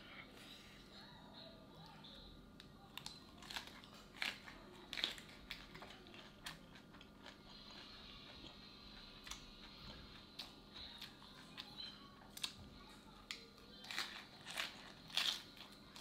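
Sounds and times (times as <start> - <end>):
lettuce crunching: 3.0 - 16.0.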